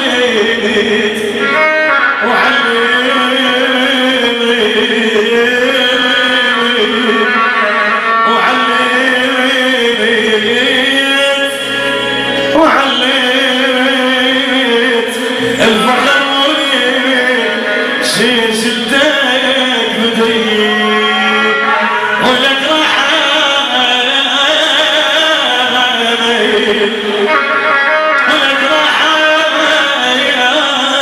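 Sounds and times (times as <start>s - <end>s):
amplified music: 0.0s - 31.0s
man singing into a microphone: 0.0s - 31.0s.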